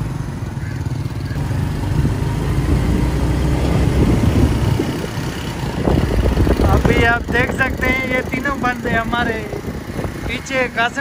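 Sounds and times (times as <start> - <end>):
motorcycles running: 0.0 - 11.0.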